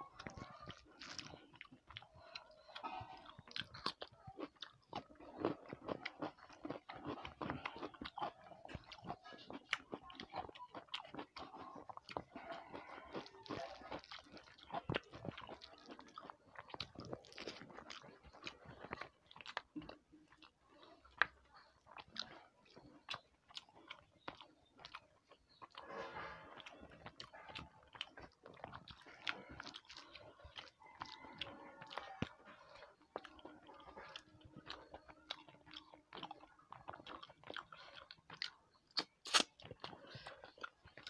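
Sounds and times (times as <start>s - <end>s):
wet chewing mouth smacks: 0.0s - 41.0s.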